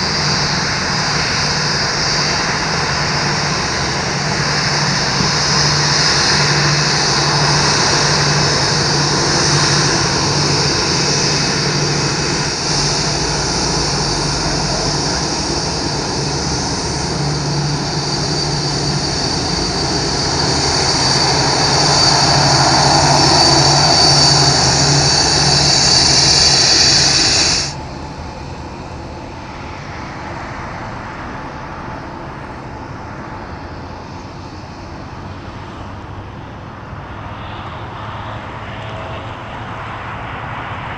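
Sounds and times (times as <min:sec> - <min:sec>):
jet engines with high whine: 0:00.0 - 0:40.9.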